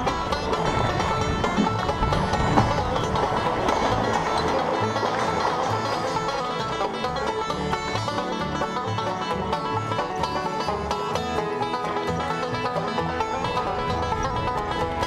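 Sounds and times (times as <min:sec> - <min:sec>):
plucked-string tune: 0:00.0 - 0:15.0.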